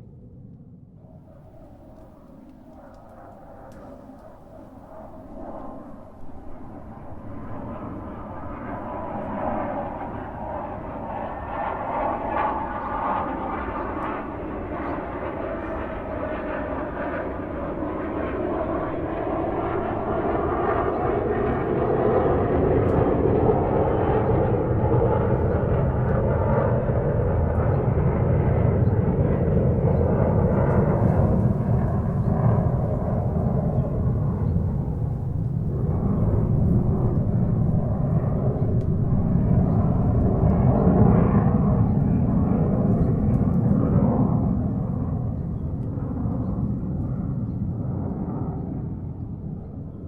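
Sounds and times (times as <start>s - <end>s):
airplane engine and airflow rush: 0.0s - 50.0s.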